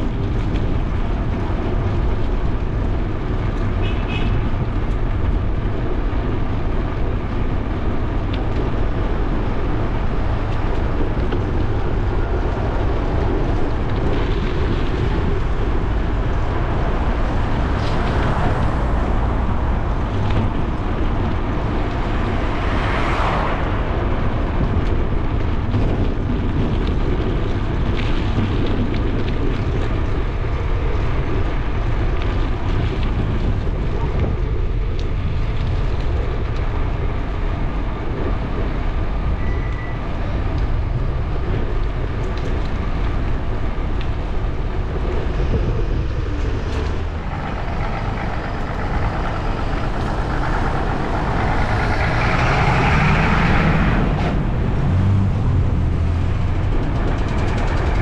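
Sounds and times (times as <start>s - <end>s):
traffic noise: 0.0s - 58.0s
vehicles passing: 0.0s - 58.0s
wind rumble on microphone: 0.0s - 58.0s.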